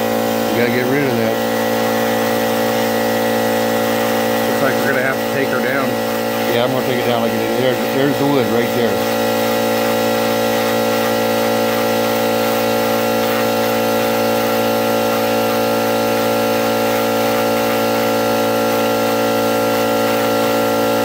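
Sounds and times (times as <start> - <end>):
rotary tool sanding epoxy: 0.0 - 21.0.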